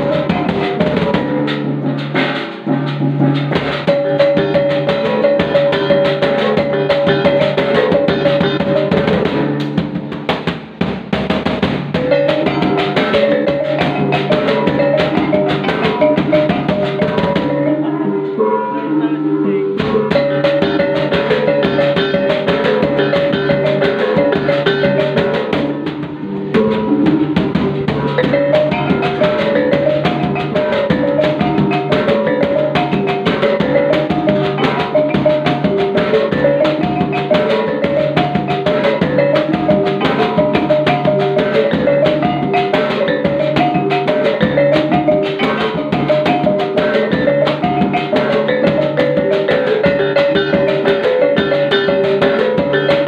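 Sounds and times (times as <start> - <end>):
busy drum beat: 0.0 - 17.8, 19.8 - 53.0.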